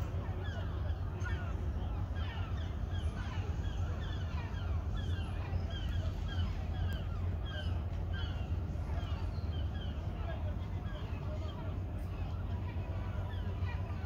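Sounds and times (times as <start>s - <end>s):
gulls calling: 0.0s - 14.0s.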